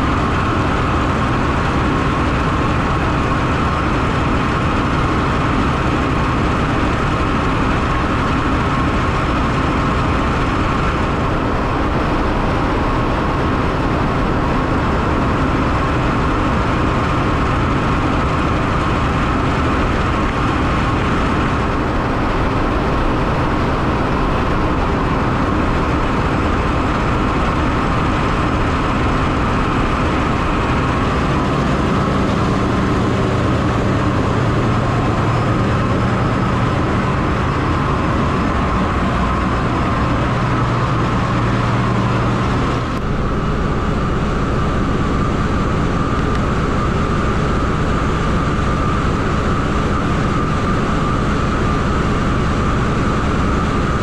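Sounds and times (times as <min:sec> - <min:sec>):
engine room machinery drone: 0:00.0 - 0:54.0.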